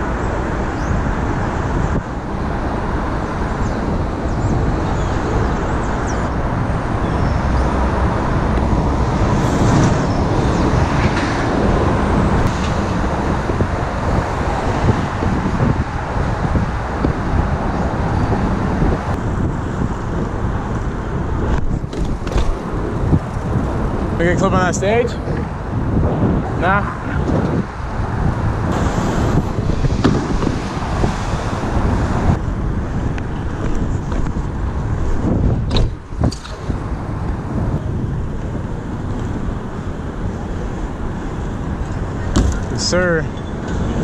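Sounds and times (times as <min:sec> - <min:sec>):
city street traffic: 0:00.0 - 0:44.0.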